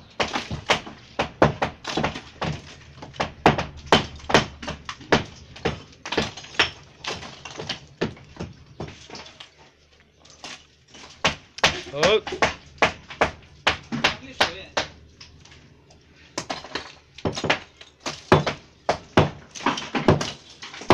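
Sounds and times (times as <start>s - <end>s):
hammer knocking brick wall: 0.0s - 9.3s, 11.0s - 15.0s, 16.4s - 20.9s.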